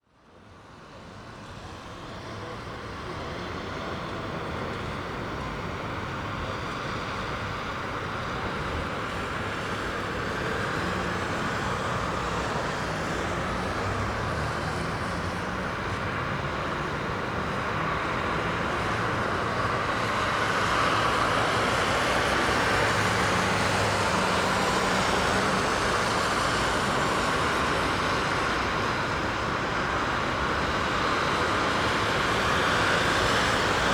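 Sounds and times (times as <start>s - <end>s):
road traffic passing: 0.6s - 33.9s.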